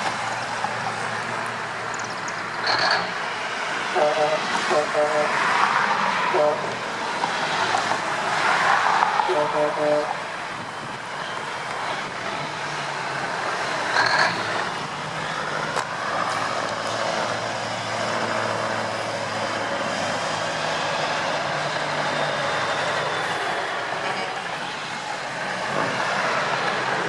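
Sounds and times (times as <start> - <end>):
road noise: 0.0 - 27.0
truck diesel engine running: 0.0 - 27.0.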